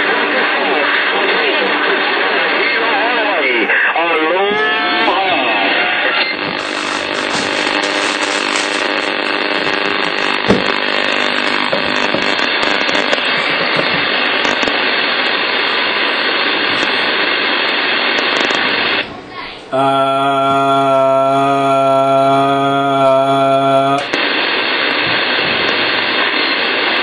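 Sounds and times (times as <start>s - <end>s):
radio static hiss: 0.0s - 19.9s, 20.8s - 27.0s.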